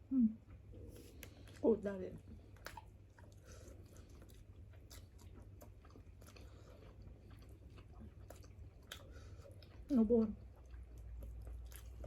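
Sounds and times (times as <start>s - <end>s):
person chewing: 2.3s - 12.0s.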